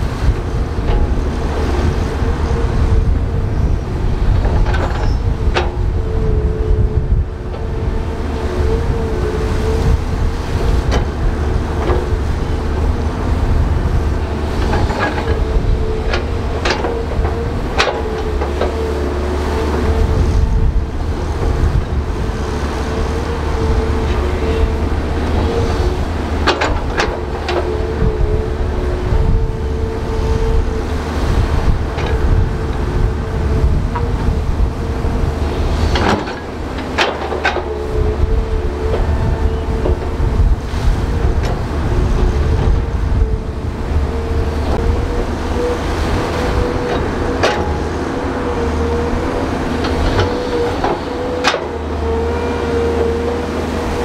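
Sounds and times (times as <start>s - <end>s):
bulldozer engine rumbling and whining: 0.0s - 54.0s.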